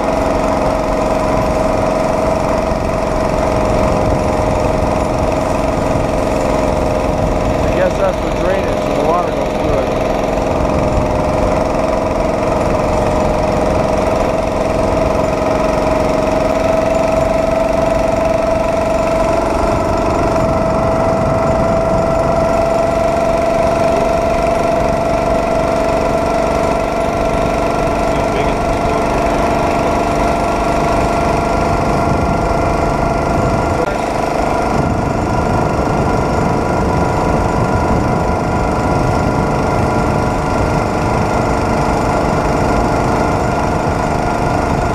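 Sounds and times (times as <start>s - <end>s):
small engine running: 0.0s - 44.9s
steel wheels rumbling on rails: 0.0s - 44.9s.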